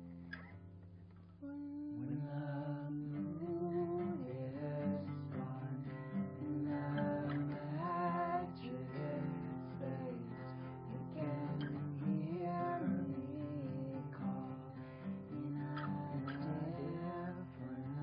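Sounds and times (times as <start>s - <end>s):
guitar music: 0.0s - 18.0s.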